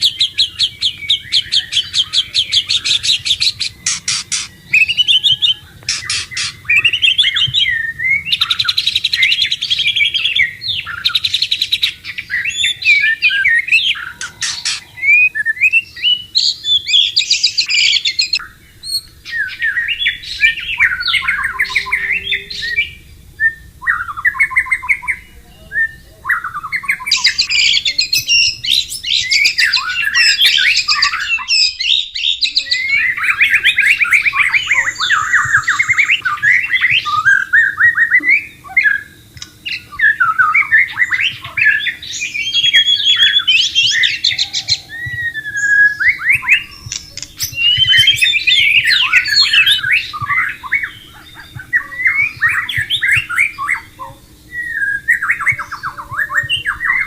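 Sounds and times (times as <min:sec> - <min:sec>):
bird singing rapid phrases: 0:00.0 - 0:57.0.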